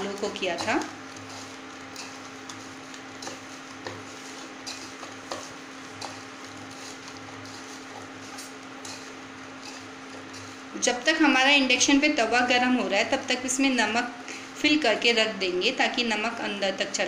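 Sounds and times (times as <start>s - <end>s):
vegetable pieces tossed in a bowl: 0.0s - 14.0s
steady low hum: 0.0s - 17.0s.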